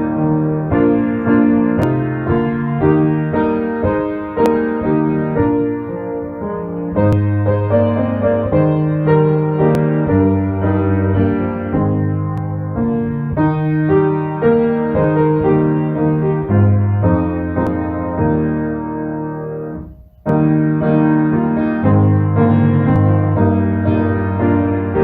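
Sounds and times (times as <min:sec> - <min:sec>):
slow piano chords: 0:00.0 - 0:25.0.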